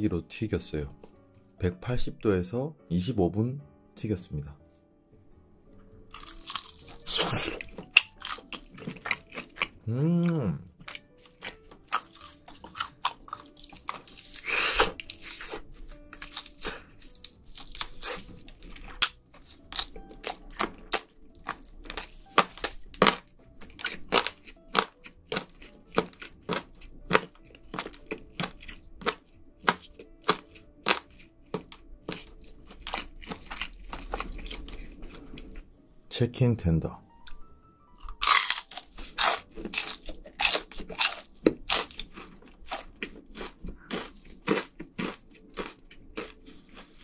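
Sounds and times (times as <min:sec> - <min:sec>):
crunching and chewing crispy food: 0:06.0 - 0:35.7, 0:38.0 - 0:47.0.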